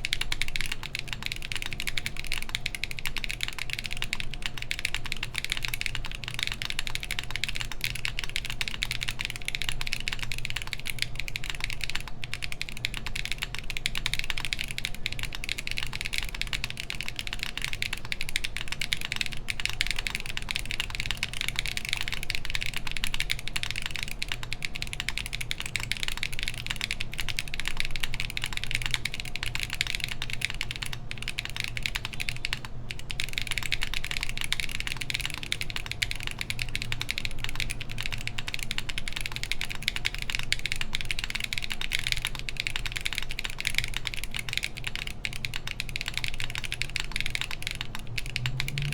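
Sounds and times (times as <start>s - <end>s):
mechanical keyboard typing: 0.0s - 48.9s.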